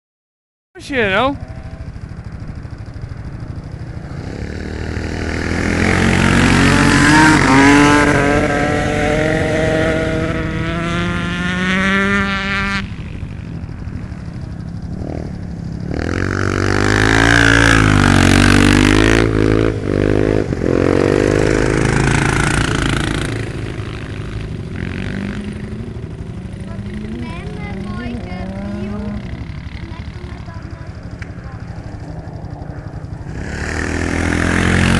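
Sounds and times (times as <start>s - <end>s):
motorcycle engines racing: 0.8s - 34.9s.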